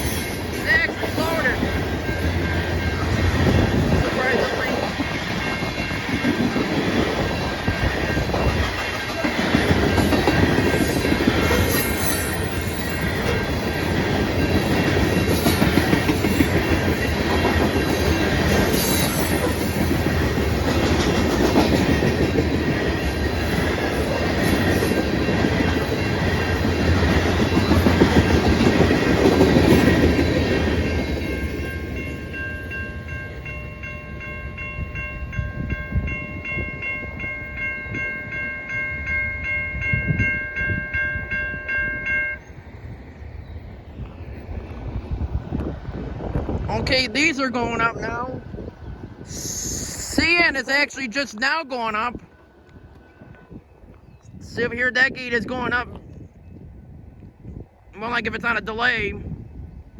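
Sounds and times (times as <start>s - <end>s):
crossing warning bell ringing: 0.0s - 43.0s, 46.7s - 48.7s, 49.3s - 53.6s
train cars rumbling over rails: 0.0s - 59.9s.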